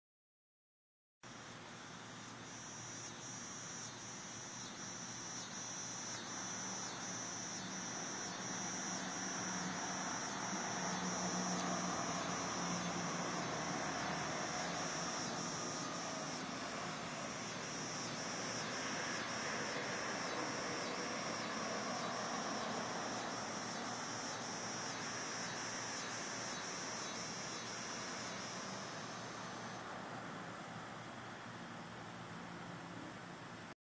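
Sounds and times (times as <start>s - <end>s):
outdoor background hiss: 1.2s - 33.8s
crickets trilling: 1.3s - 33.6s.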